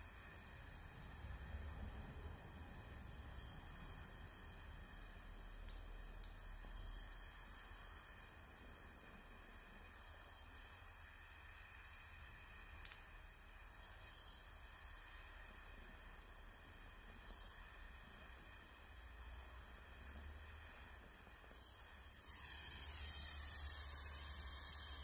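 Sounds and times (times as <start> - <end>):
gas torch flame hissing: 0.0 - 25.0.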